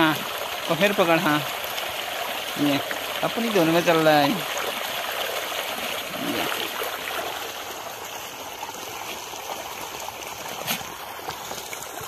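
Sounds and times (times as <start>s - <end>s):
water running into tub: 0.0s - 12.0s.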